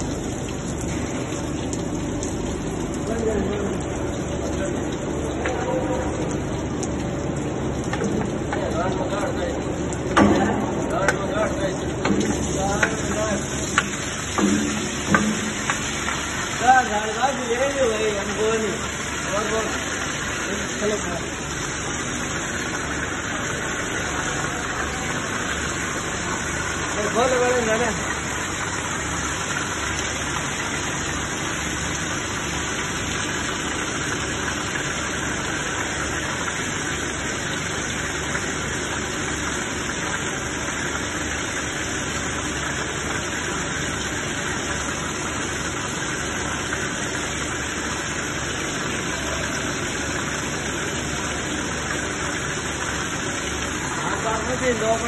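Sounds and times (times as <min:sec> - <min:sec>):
water rushing and pouring: 0:00.0 - 0:55.0.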